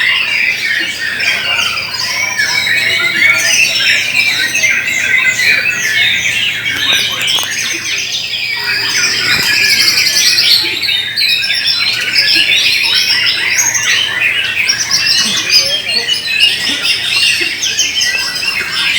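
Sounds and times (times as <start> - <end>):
songbirds singing trills and chirps: 0.0 - 18.9.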